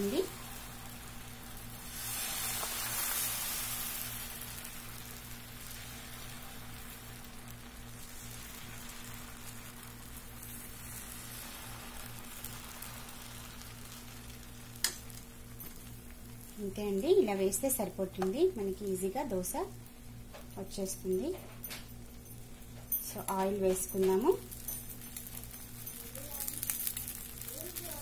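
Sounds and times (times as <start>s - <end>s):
batter sizzling on hot pan: 0.0s - 28.0s.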